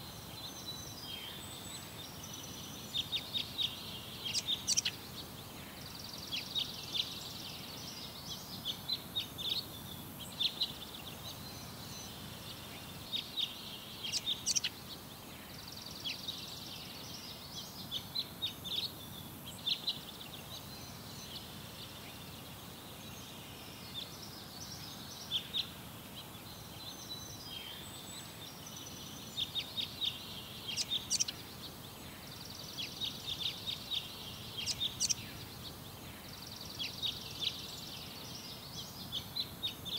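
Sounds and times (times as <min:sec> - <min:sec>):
low hiss: 0:00.0 - 0:39.9
small birds chirping: 0:00.0 - 0:39.9.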